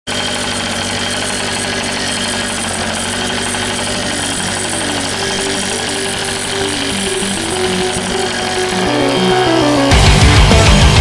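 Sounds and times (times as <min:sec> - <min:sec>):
moped engine idling: 0:00.1 - 0:11.0.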